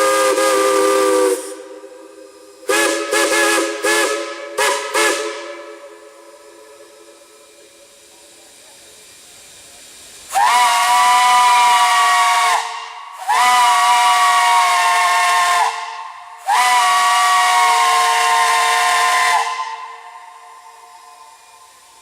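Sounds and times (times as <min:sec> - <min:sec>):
steam whistle blasts: 0:00.0 - 0:07.7, 0:10.3 - 0:22.0
rushing steam: 0:00.0 - 0:22.0.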